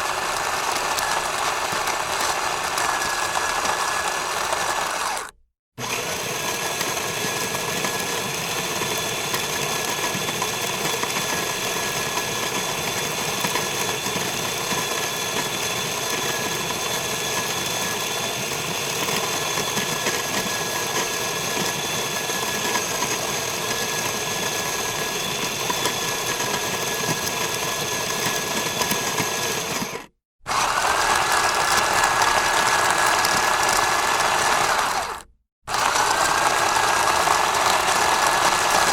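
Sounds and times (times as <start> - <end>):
coffee machinery whirring and clattering: 0.0 - 38.9.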